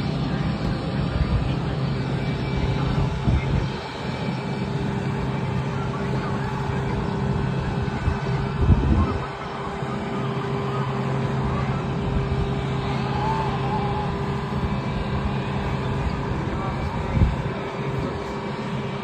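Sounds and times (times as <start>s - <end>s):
loud low rumble: 0.0s - 19.0s
machinery hum: 0.0s - 19.0s.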